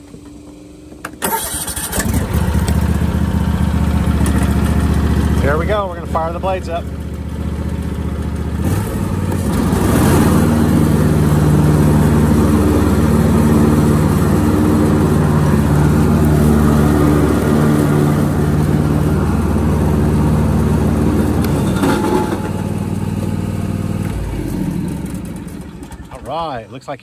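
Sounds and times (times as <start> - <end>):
riding mower running: 0.0 - 26.9.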